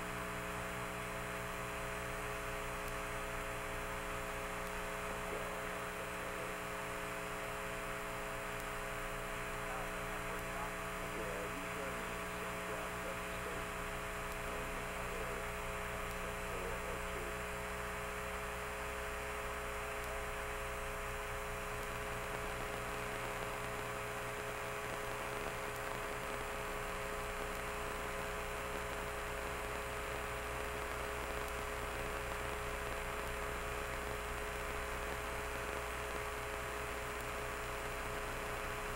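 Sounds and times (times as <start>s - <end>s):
electrical hum with fixed tones: 0.0s - 38.9s.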